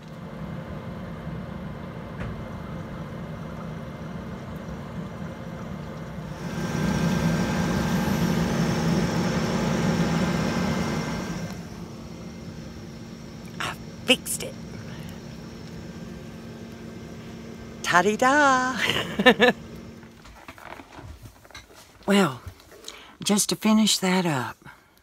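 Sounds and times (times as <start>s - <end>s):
cooler motor hum with air rush: 0.0s - 23.1s.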